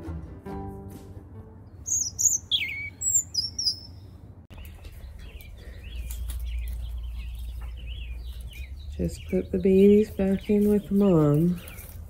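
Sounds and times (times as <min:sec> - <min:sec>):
small birds chirping and whistling: 0:01.8 - 0:12.0.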